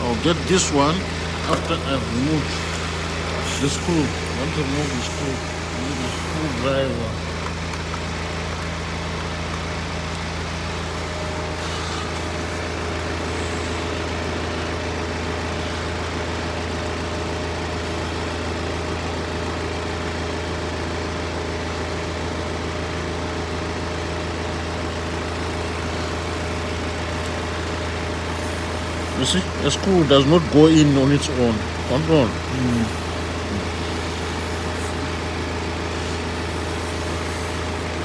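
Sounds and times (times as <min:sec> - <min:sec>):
low mechanical hum: 0:00.0 - 0:38.0.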